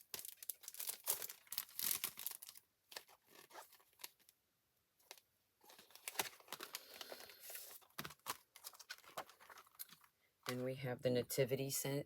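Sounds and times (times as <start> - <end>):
packaging crinkling and rustling: 0.0 - 4.4, 5.0 - 10.6.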